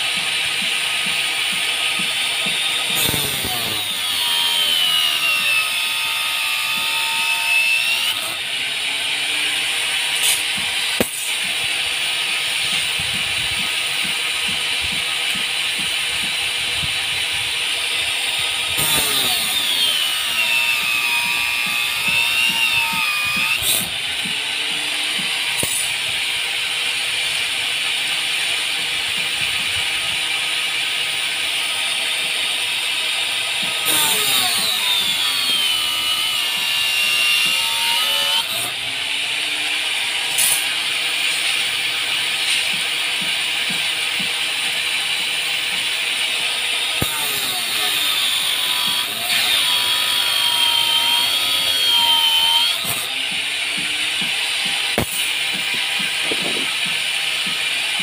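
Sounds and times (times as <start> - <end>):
angle grinder cutting steel: 0.0 - 58.0.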